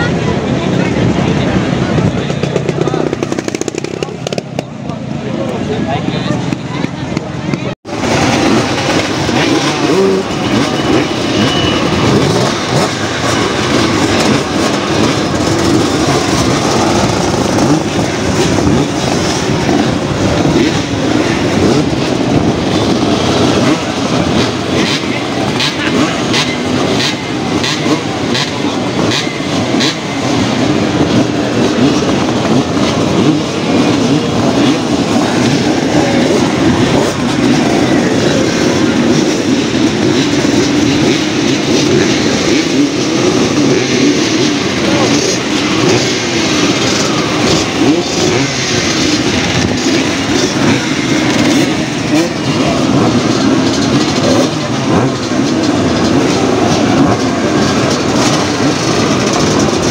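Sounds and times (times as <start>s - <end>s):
motorbike engines revving past: 1.2s - 5.7s, 6.3s - 59.9s.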